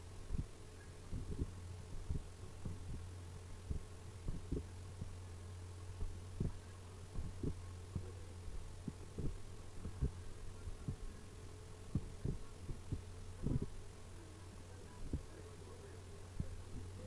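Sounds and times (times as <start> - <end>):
soft low thumps: 0.0 - 11.2, 11.9 - 13.8, 15.0 - 15.4, 16.4 - 17.0
low electrical hum: 0.0 - 17.0.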